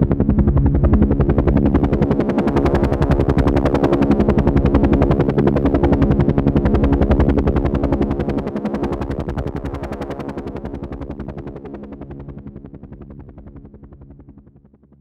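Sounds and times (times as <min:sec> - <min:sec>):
helicopter rotor chopping: 0:00.0 - 0:14.7
helicopter engine hum: 0:00.0 - 0:15.0.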